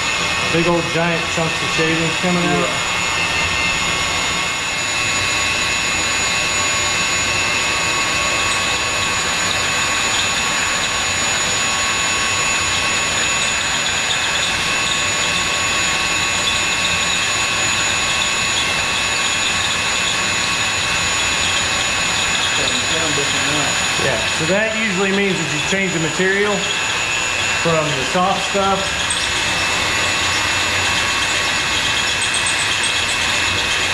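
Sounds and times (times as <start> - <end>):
drill bit grinding metal: 0.0 - 33.9
drill motor whine: 0.0 - 33.9.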